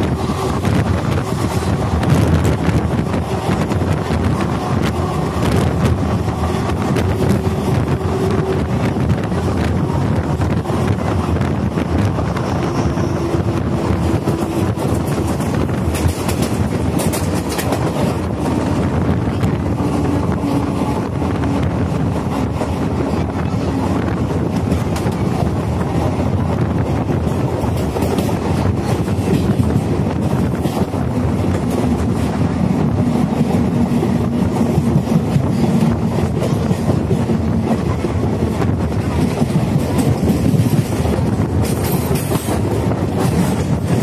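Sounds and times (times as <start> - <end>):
train wheels rumbling on track: 0.0 - 44.0
wind buffeting microphone: 0.0 - 44.0.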